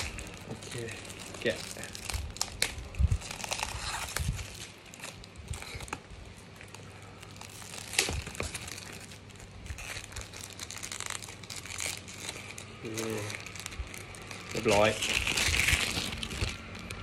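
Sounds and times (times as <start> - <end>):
plastic wrapper crinkling: 0.0 - 17.0.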